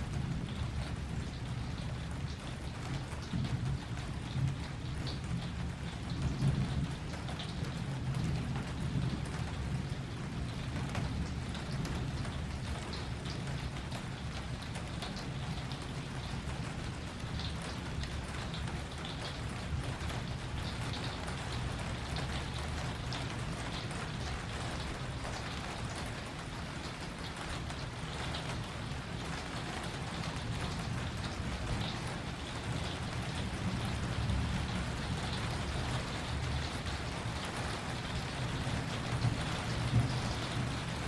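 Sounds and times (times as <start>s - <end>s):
rain falling: 0.0s - 41.0s
raindrops ticking: 0.1s - 41.0s.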